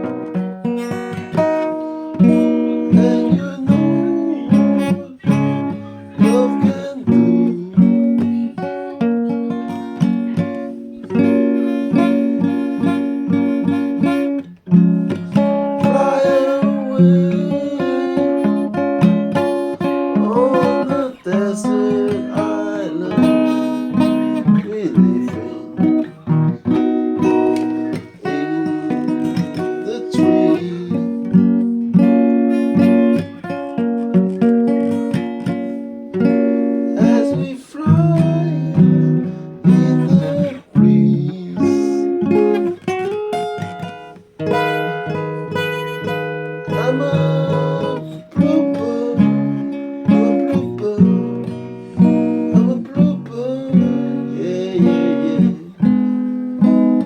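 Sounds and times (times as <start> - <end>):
acoustic guitar chords: 0.0 - 57.0
person singing: 0.9 - 42.9, 43.8 - 57.0.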